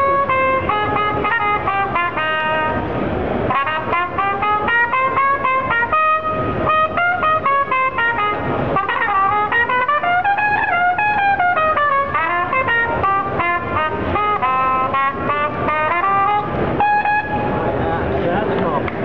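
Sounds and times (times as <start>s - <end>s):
trumpet melody: 0.0s - 17.8s.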